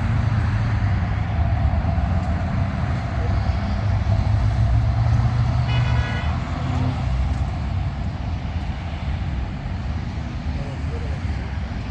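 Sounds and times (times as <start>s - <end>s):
road traffic rumble: 0.0s - 11.9s.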